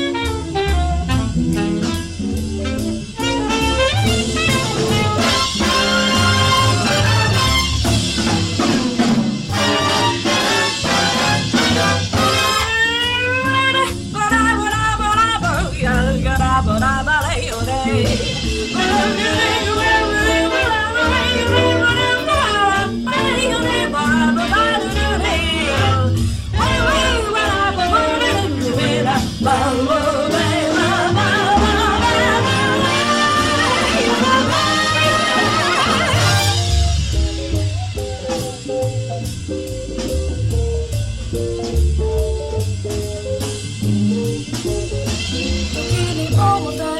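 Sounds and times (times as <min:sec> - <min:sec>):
jazzy instrumental music: 0:00.0 - 0:46.9.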